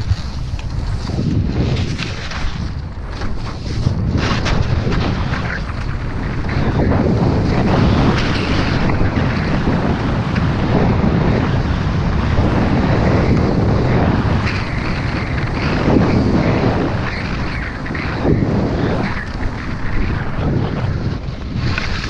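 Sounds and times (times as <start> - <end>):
skis scraping over snow: 0.0 - 22.0
wind buffeting microphone: 0.0 - 22.0.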